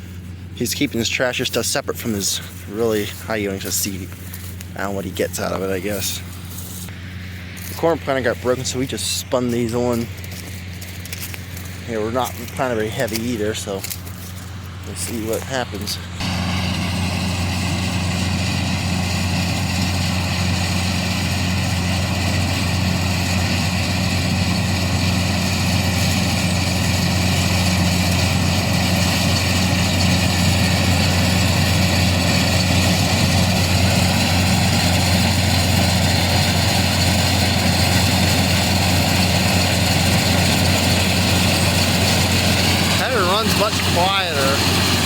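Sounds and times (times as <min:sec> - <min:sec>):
diesel farm machinery running: 0:00.0 - 0:45.0.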